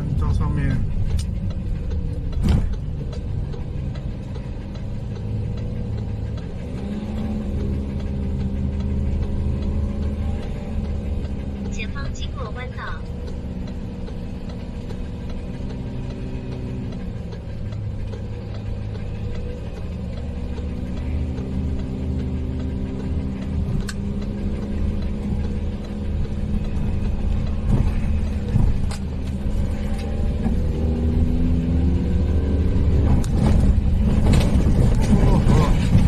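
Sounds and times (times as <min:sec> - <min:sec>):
road rumble: 0:00.0 - 0:36.0
van engine accelerating: 0:00.0 - 0:36.0.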